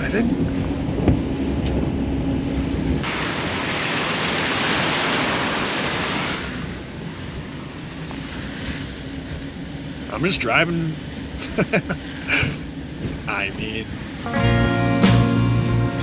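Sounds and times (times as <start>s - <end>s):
engine hum and road noise: 0.0s - 5.4s, 6.1s - 16.0s.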